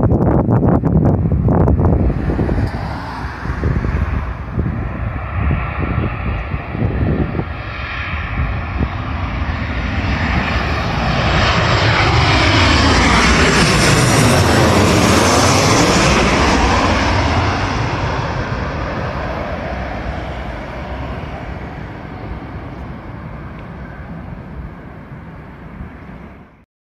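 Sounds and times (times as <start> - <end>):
jet airliner passing overhead: 0.0 - 26.6.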